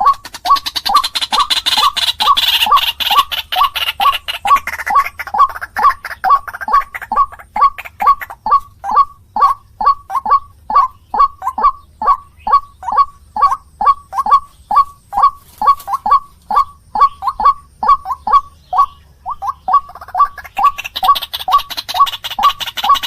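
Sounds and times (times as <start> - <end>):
bird giving harsh calls: 0.0 - 23.0.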